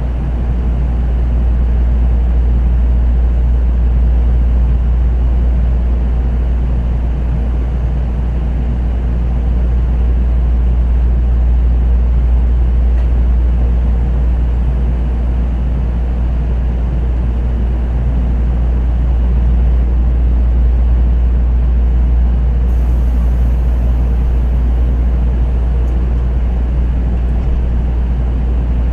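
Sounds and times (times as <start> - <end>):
train cabin hum and rumble: 0.0 - 28.9.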